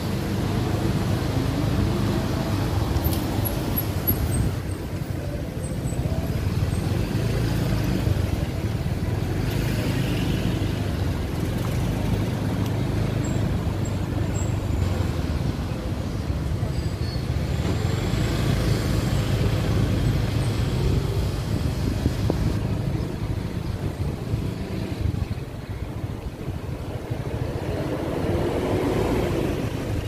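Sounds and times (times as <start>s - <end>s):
vehicle engines rumbling: 0.0s - 30.0s.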